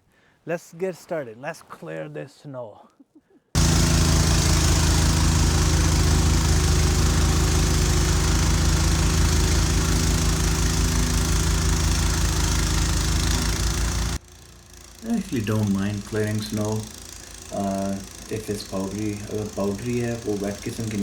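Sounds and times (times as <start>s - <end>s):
snow blower engine running: 3.6s - 21.0s.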